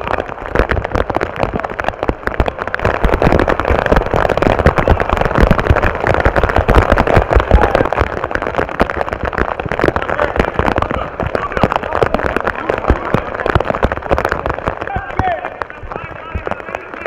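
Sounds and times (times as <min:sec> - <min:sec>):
heavy rain crackle: 0:00.0 - 0:17.0.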